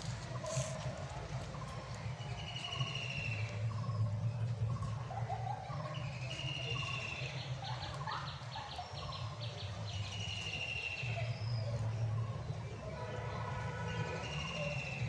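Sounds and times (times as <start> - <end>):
birds singing: 2.2 - 15.0.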